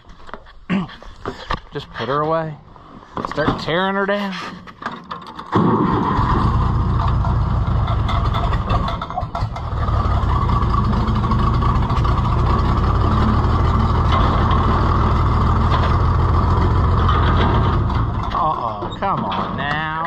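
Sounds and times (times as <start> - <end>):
tractor engine starting and running: 3.4 - 20.0.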